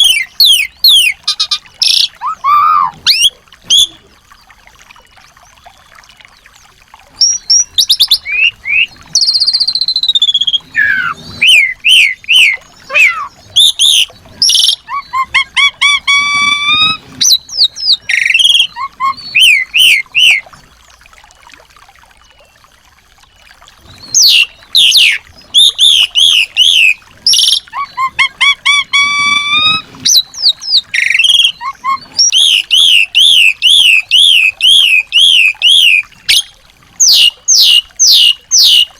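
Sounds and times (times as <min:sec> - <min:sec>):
songbird singing: 0:00.0 - 0:04.4, 0:07.2 - 0:20.4, 0:23.3 - 0:38.9.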